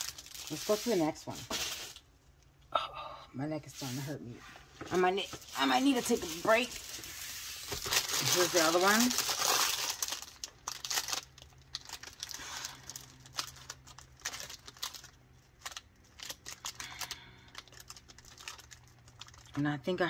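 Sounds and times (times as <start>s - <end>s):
plastic packaging crinkling: 0.0s - 2.1s, 4.9s - 19.6s.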